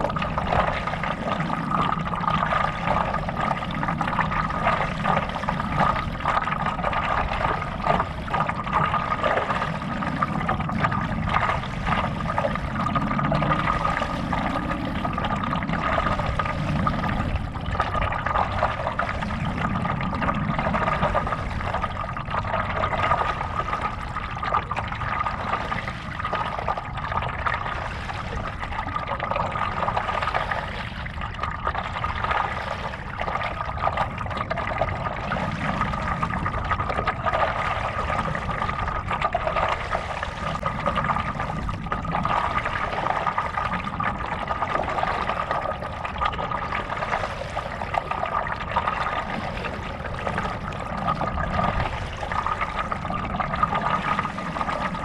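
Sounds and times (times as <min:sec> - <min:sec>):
paddle dipping through water: 0:00.0 - 0:55.0
water splashing and trickling: 0:00.0 - 0:55.0.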